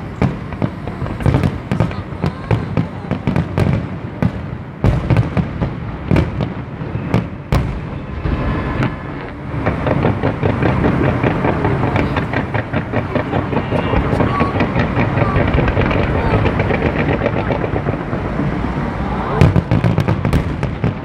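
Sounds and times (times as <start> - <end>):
dense rapid firework crackling: 0.0 - 21.0
firework shells bursting: 0.0 - 21.0.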